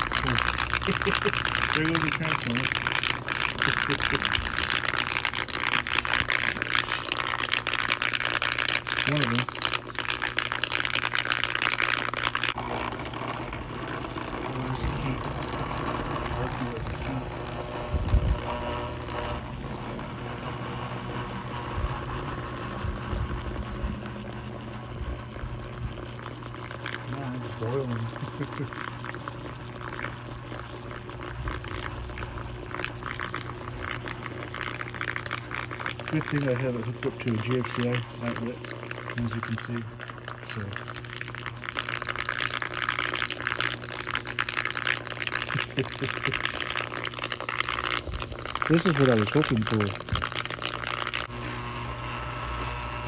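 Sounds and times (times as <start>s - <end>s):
electrical fizzing and crackling: 0.0s - 51.4s
low electrical hum: 0.0s - 53.0s.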